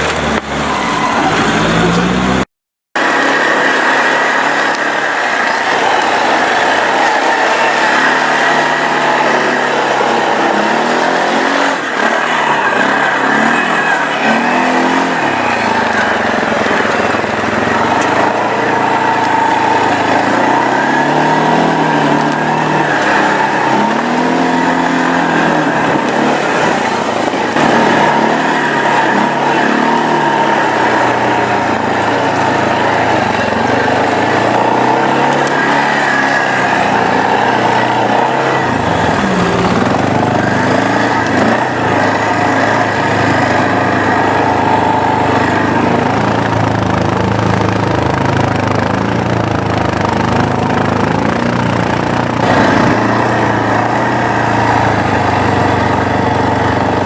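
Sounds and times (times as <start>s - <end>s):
off-roader engine revving: 0.0s - 57.0s
loud rushing noise: 3.0s - 57.0s.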